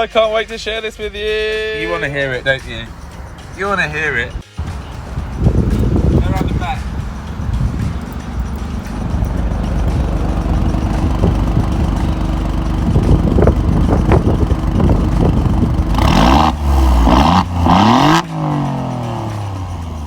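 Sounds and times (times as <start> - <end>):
car engine idling: 0.0 - 20.0
exhaust crackles: 0.0 - 20.0
engine revving: 1.5 - 20.0.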